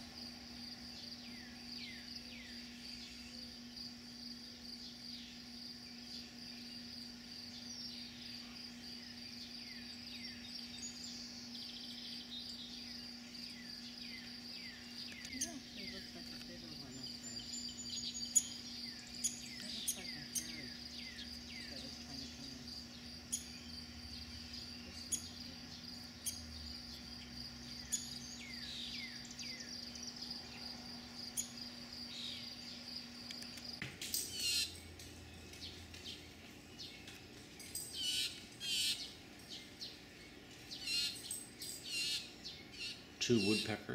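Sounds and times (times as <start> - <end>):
high insect trill: 0.0 - 43.9
songbirds chirping: 0.0 - 43.9.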